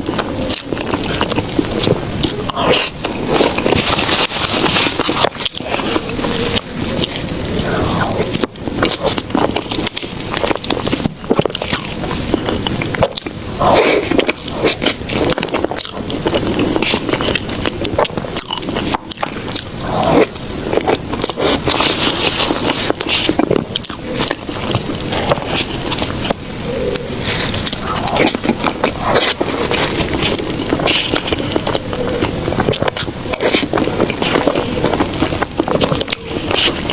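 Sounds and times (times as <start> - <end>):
close-miked biting and chewing: 0.0 - 36.9.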